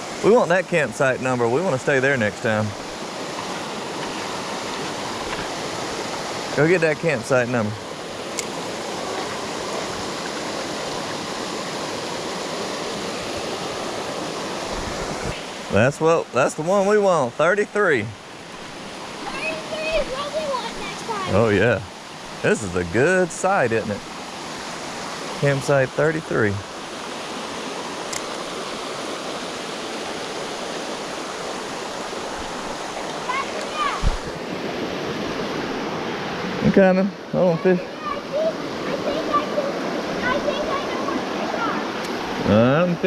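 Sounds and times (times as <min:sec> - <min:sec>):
creek water rushing: 0:00.0 - 0:43.0.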